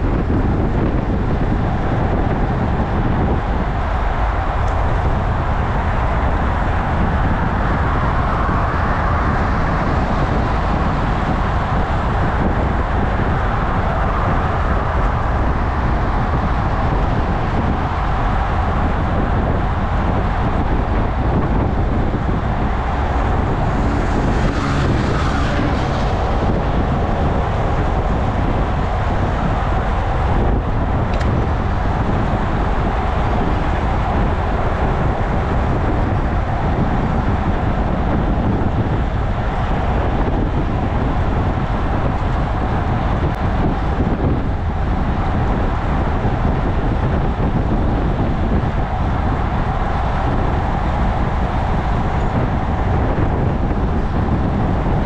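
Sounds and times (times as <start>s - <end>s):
traffic passing: 0.0s - 55.0s
wind rush over microphone: 0.0s - 55.0s.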